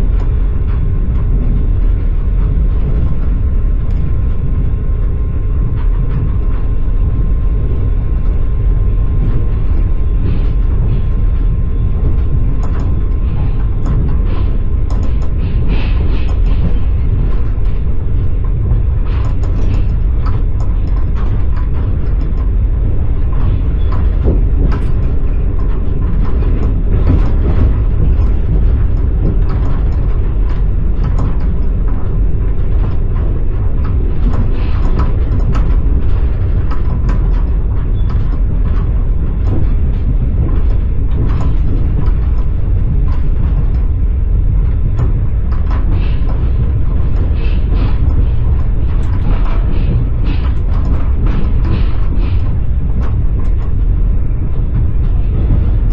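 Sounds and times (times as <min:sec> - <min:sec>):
train rumbling: 0:00.0 - 0:55.9
wheels clicking on rails: 0:00.0 - 0:55.9.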